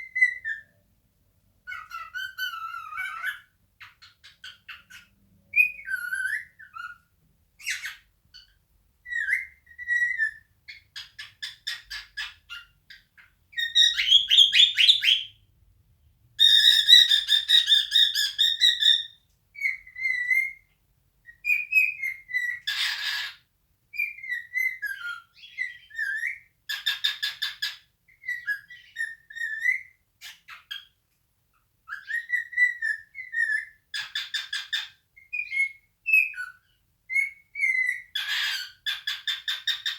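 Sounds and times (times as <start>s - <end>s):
cockatiel whistling and warbling: 0.0s - 0.8s, 1.7s - 15.4s, 16.4s - 31.0s, 31.8s - 39.9s.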